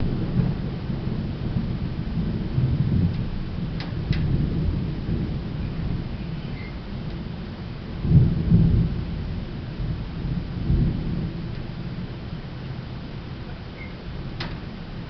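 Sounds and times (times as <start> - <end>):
distant thunder rumbling: 0.0 - 15.0.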